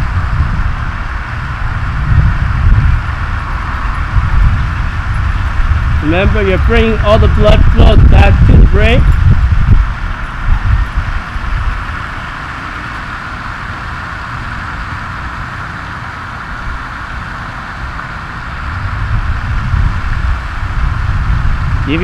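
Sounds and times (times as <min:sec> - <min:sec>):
low gusting rumble: 0:00.0 - 0:22.0.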